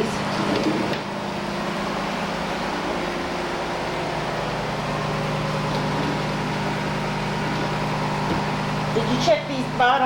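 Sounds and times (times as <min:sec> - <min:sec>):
electric motor hum: 0:00.0 - 0:10.0.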